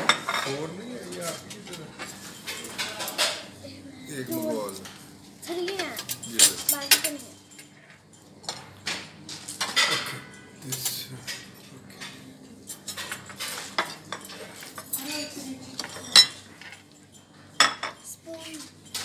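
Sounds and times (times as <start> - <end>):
cutlery and plates clinking: 0.0 - 3.6, 4.3 - 19.0.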